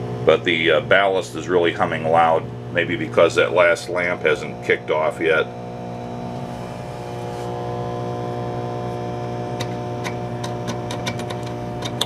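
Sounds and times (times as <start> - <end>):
lamp ballast mains hum: 0.0 - 12.0.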